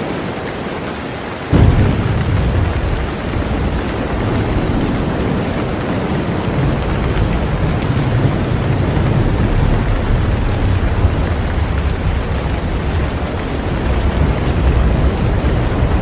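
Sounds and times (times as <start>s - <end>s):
heavy rain on a boat: 0.0s - 16.0s
deep low rumble: 1.5s - 16.0s.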